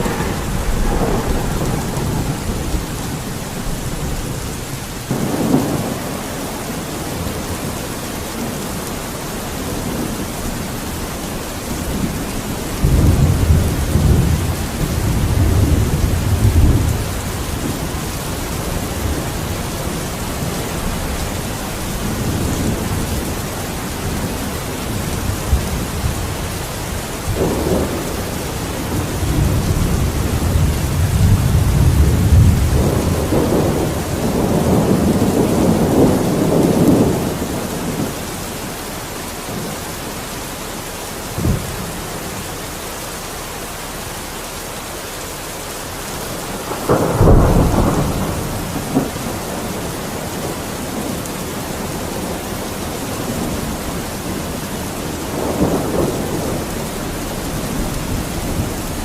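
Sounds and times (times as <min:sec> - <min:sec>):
thunder rumbling and cracking: 0:00.0 - 0:40.3, 0:41.2 - 0:42.4, 0:45.8 - 0:59.0
steady rain: 0:00.0 - 0:59.0.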